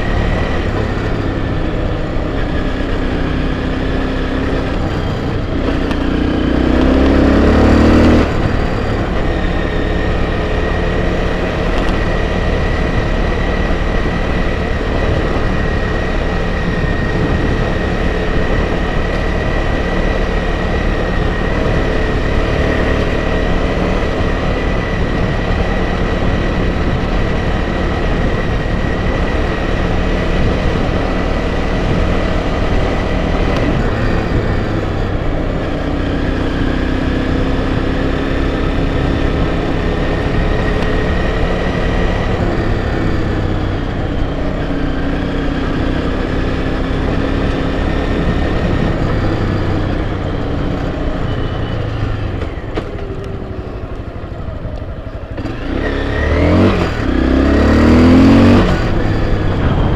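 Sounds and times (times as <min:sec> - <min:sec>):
dirt bike engine: 0:00.0 - 0:59.9
rough wind noise: 0:00.0 - 0:59.9.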